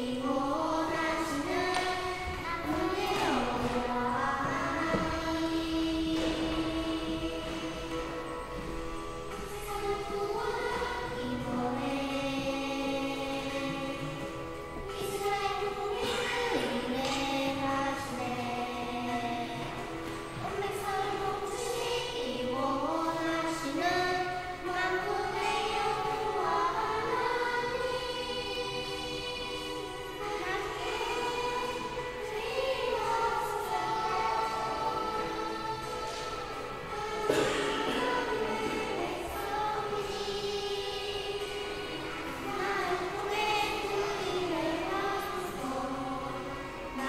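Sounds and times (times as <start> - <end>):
girls singing: 0.0 - 47.0
musical accompaniment: 0.0 - 47.0.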